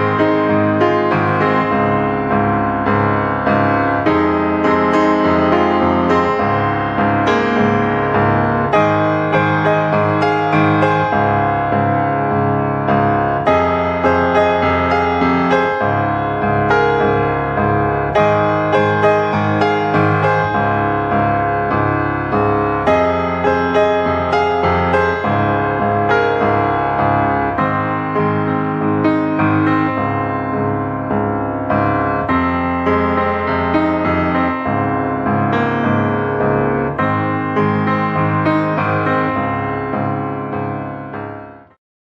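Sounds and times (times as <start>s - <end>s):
piano music: 0.0s - 41.8s.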